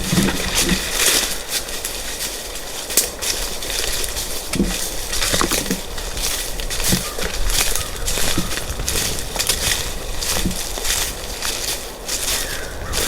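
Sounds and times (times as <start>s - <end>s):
footsteps crunching dry leaves: 0.0s - 13.0s
twigs snapping: 0.0s - 13.0s.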